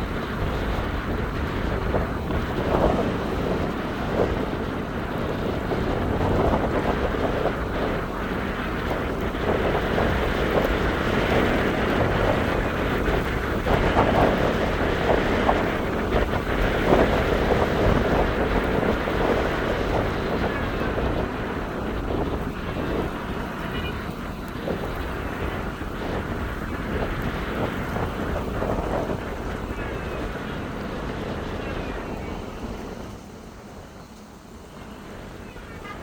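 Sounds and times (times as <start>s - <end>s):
gusty wind buffeting microphone: 0.0s - 36.0s.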